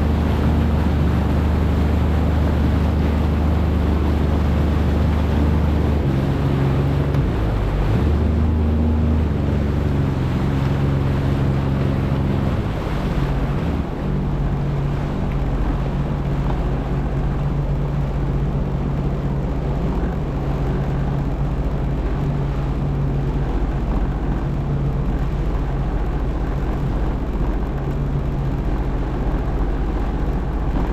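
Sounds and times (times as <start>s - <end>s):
jet ski engine running: 0.0s - 30.9s
water noise: 0.0s - 30.9s
wind: 0.0s - 30.9s.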